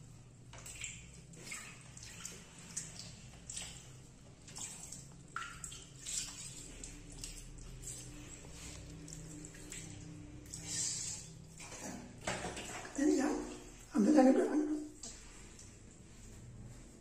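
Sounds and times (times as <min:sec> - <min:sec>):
water splashing: 0:00.5 - 0:15.8.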